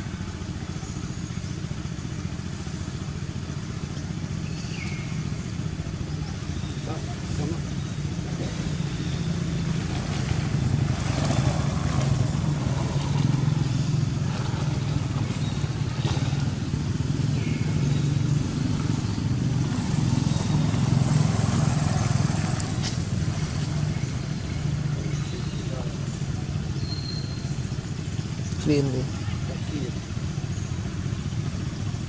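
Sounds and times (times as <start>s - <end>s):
low motor rumble: 0.0s - 32.0s.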